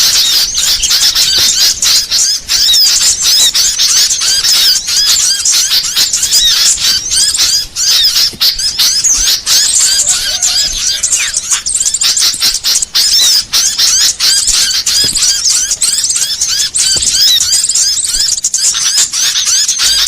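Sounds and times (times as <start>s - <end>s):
songbirds chirping and chattering: 0.0s - 20.0s.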